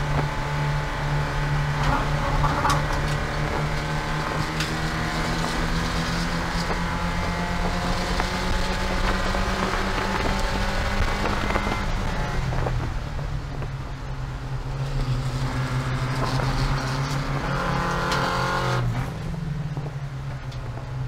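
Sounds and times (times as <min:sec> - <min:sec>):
race car engine under load: 0:00.0 - 0:21.0
road and wind noise: 0:00.0 - 0:21.0.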